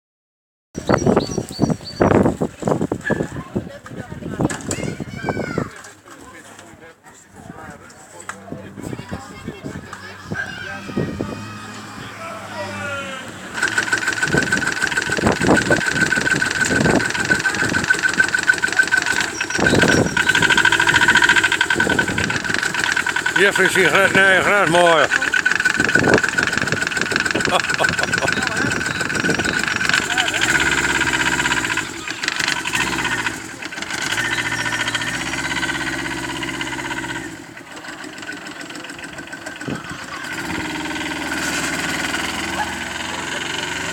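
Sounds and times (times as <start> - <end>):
small engine whining and rattling: 8.1 - 43.9.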